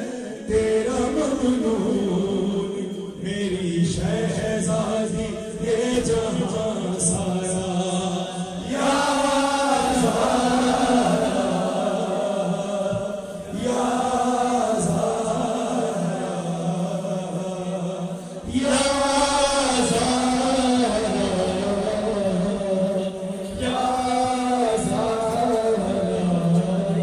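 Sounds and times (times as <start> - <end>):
man chanting into a microphone: 0.0 - 27.0.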